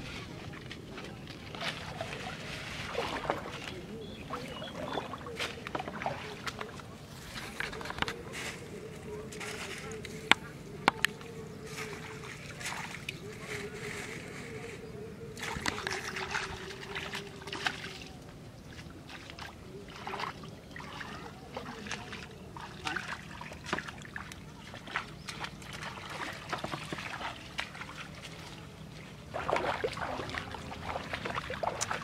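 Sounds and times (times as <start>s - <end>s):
water sloshing and splashing: 0.0s - 14.7s, 15.3s - 32.0s
faint steady hum: 0.0s - 32.0s.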